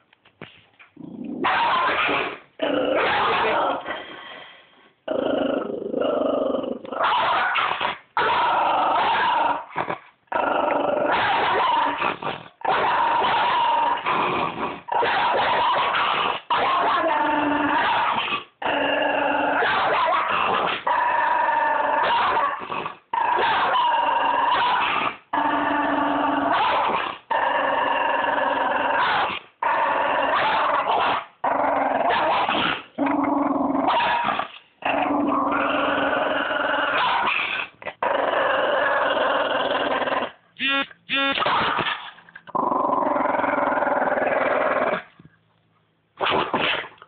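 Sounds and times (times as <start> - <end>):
dog growling: 1.0 - 4.3, 5.0 - 40.4, 41.6 - 45.2.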